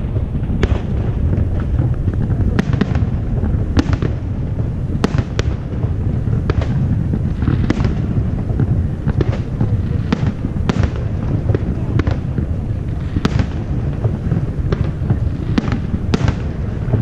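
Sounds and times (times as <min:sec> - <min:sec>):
low rumble of booms: 0:00.0 - 0:17.0.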